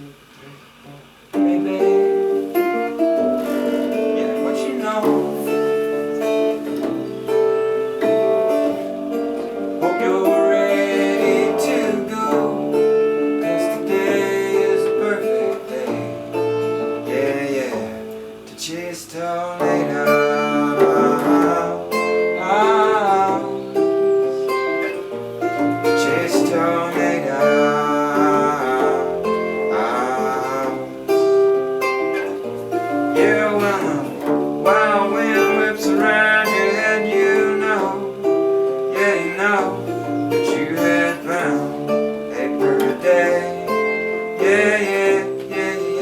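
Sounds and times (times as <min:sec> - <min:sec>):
acoustic guitar playing: 0:00.0 - 0:46.0
bass accompaniment: 0:00.0 - 0:46.0.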